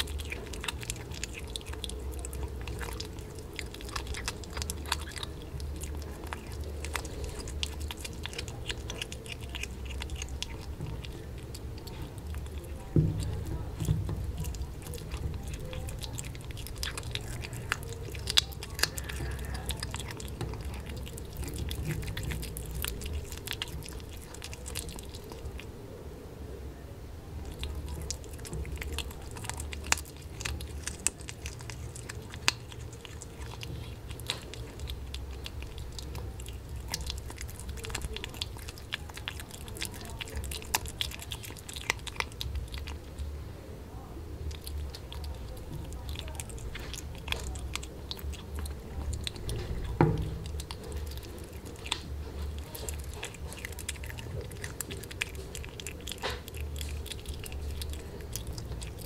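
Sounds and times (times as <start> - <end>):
kitten chewing wet clicks: 0.0 - 25.8, 27.4 - 43.4, 44.3 - 59.0
low steady hum: 0.0 - 59.0.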